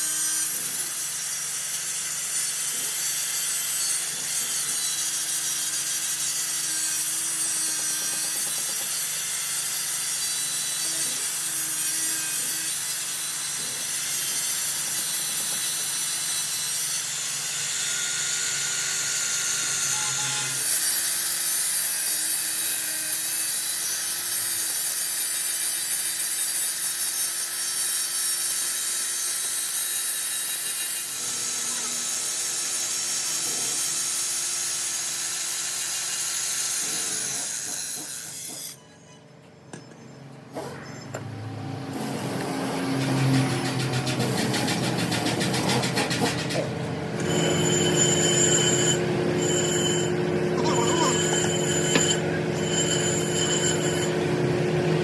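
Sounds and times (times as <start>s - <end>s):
tool rasping on metal: 0.0s - 17.2s, 17.8s - 39.3s, 42.0s - 54.4s.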